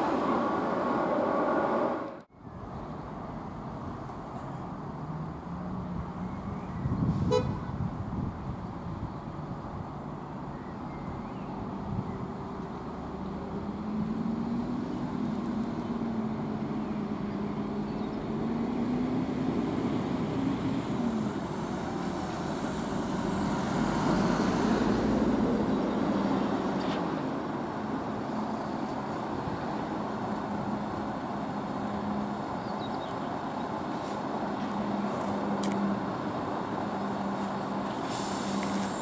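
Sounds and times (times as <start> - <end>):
vehicle engines passing: 0.0 - 39.0.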